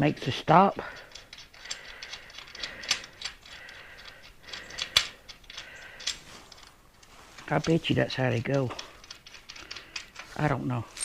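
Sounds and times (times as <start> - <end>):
metal stops clicking and clinking: 0.8 - 11.0.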